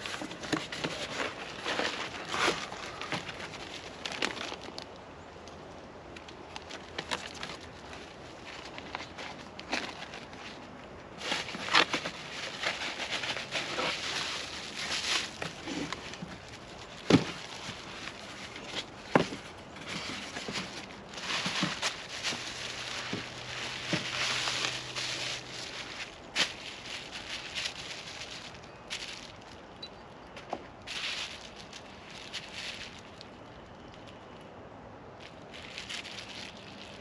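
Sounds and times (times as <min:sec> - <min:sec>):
rustling and crackling: 0:00.0 - 0:34.4, 0:35.2 - 0:37.0.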